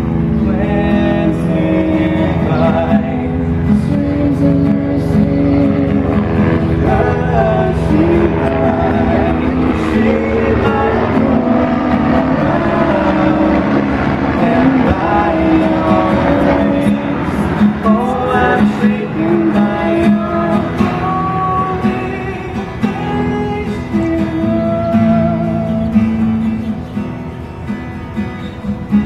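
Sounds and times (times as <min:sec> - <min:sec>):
strummed acoustic guitar: 0:00.0 - 0:29.0
man and woman singing: 0:00.5 - 0:26.0.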